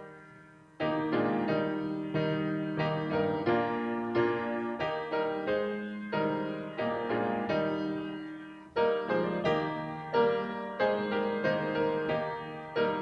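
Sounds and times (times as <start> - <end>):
slow piano piece: 0.0 - 13.0.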